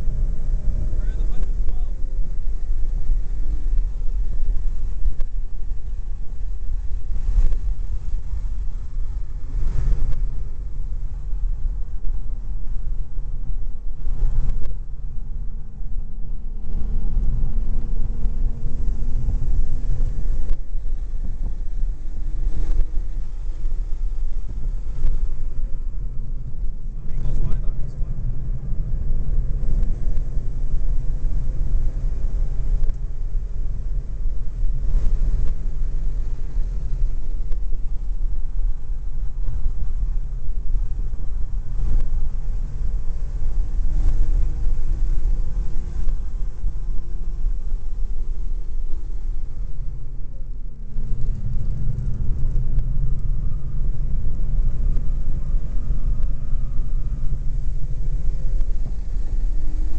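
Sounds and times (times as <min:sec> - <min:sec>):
car engine at part throttle: 0:00.0 - 0:59.9
wind rumble on camera: 0:00.0 - 0:59.9.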